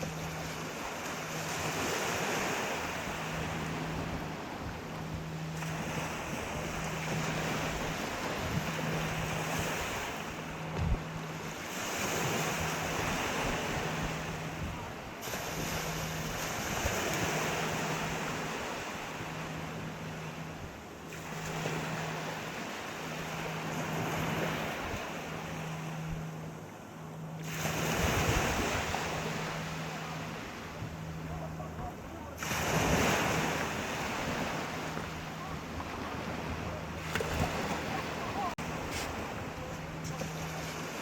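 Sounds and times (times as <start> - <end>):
sea waves breaking: 0.0 - 41.0.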